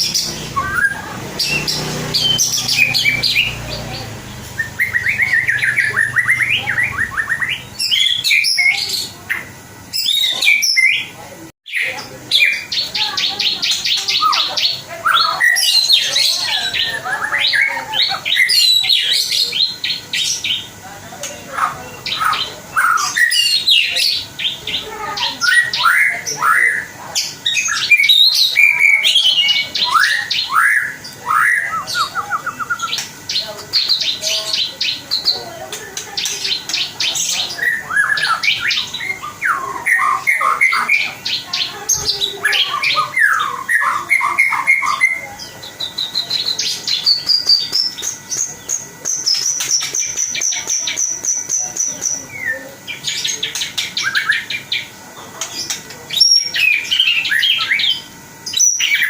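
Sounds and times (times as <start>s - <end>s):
songbird singing trills and whistles: 0.0s - 59.0s.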